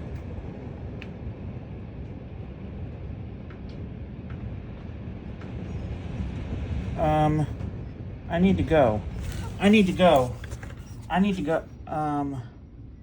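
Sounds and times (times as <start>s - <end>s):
wind gusts buffeting house: 0.0s - 13.0s.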